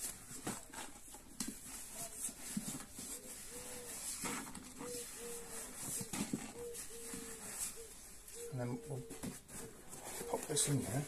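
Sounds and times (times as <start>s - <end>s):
bird calling: 1.9s - 11.0s.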